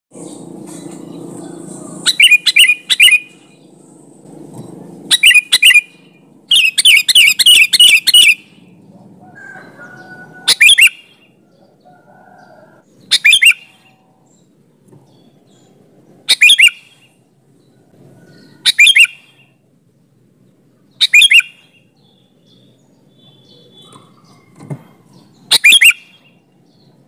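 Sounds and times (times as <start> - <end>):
bird chirping: 0.2 - 4.0, 5.1 - 19.7, 20.4 - 27.0.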